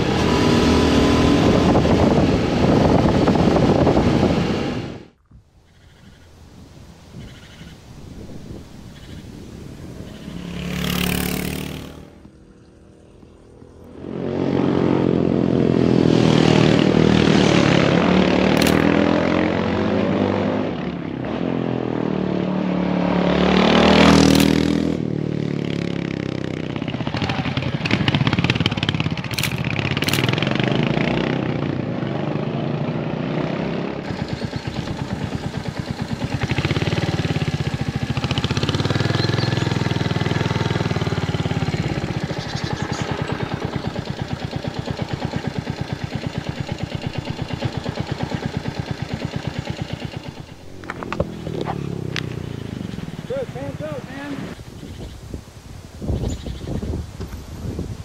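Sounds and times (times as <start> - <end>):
motorcycle engine passing: 0.0 - 6.2, 7.2 - 55.2.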